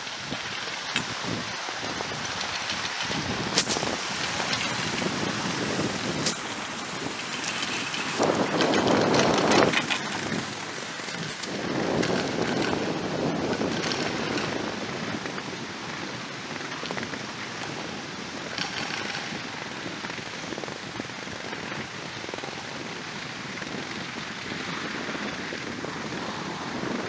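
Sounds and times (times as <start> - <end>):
skis sliding over snow: 0.0 - 27.0.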